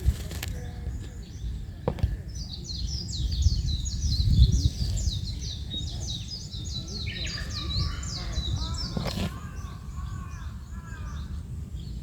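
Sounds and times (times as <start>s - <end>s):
small bird singing: 0.4s - 12.0s.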